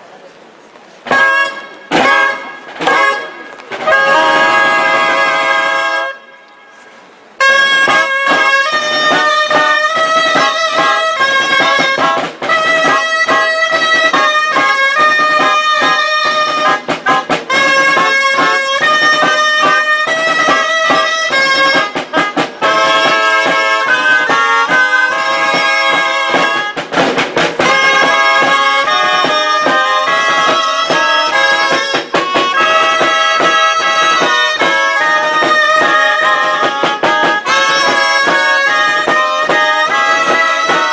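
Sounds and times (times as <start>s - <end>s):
double-reed shawms playing folk tune: 0.2s - 40.9s
drum beat: 1.1s - 5.7s, 7.4s - 40.9s.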